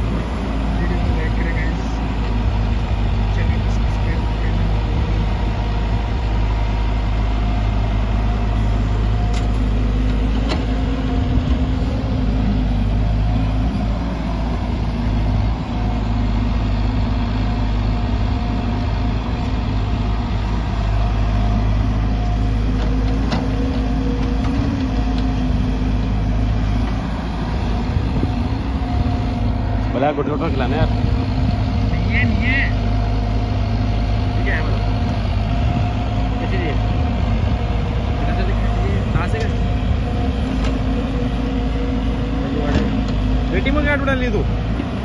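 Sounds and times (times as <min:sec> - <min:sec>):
excavator diesel engine rumbling: 0:00.0 - 0:45.0.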